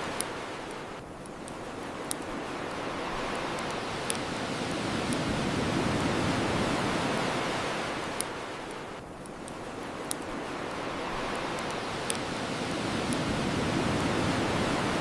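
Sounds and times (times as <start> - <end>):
bonfire crackling: 0.0 - 15.0
ocean waves washing on shore: 0.0 - 15.0.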